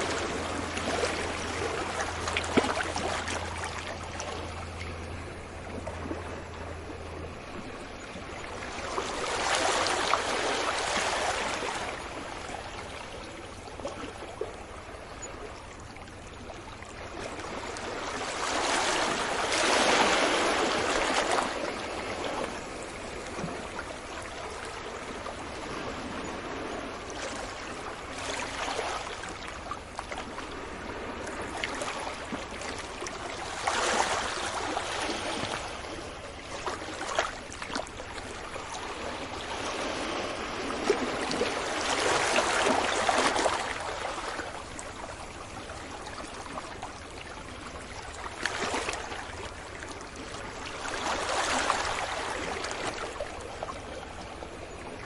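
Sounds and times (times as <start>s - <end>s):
sea waves washing onto beach: 0.0s - 7.8s, 17.2s - 55.0s.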